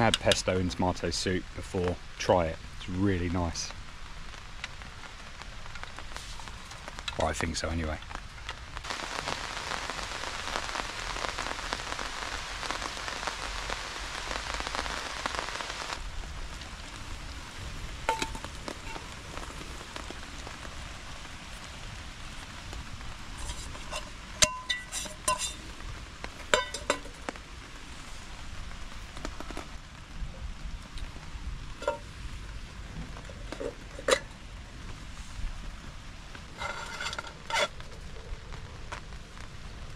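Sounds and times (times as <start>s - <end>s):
rain pattering on a tarp: 0.0s - 39.9s.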